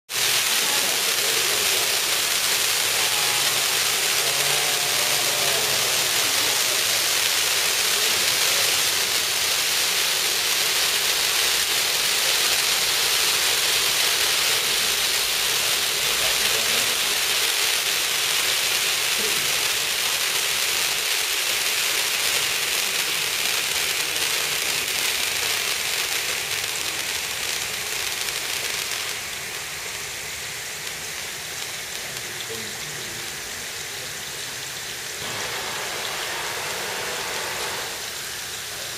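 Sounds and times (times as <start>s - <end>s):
fireworks hissing sparks: 0.1s - 38.9s.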